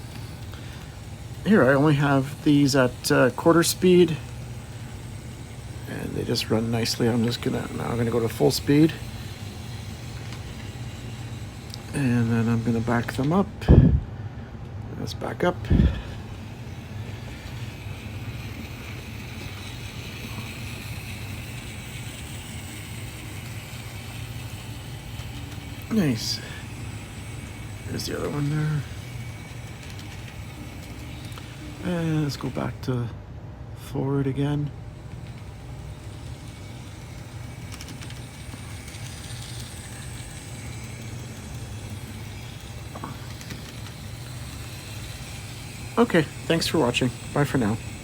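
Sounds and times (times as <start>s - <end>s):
wheels rolling on track: 0.0s - 13.8s, 15.0s - 33.1s, 34.2s - 48.0s
model train motor hum: 0.0s - 33.1s, 34.0s - 48.0s.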